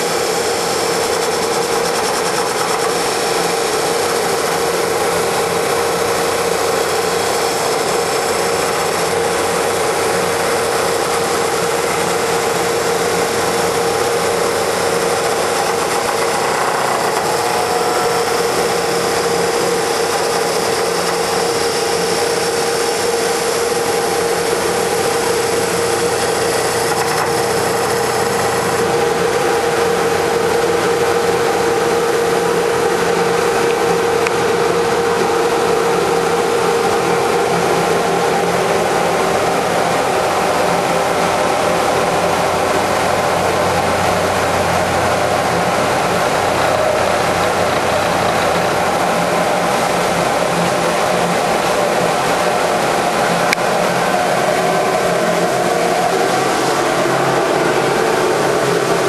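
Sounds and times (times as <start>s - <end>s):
broad machine hiss: 0.0s - 59.0s
wood lathe humming: 0.0s - 59.0s.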